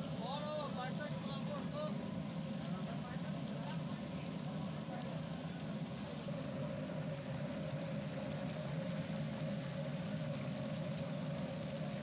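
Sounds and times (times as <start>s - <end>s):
constant hum: 0.0s - 12.0s
low engine-like rumble: 0.0s - 12.0s.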